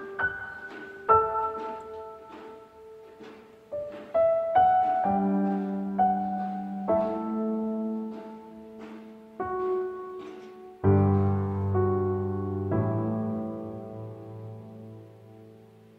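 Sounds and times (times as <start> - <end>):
slow piano music: 0.0 - 15.9.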